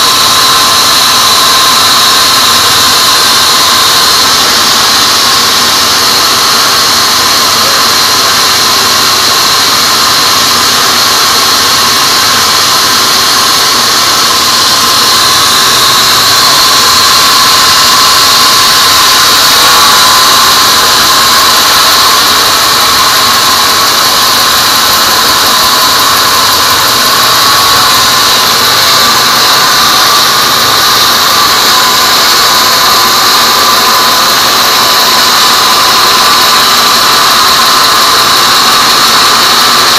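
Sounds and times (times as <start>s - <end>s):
band saw whining through wood: 0.0s - 39.9s.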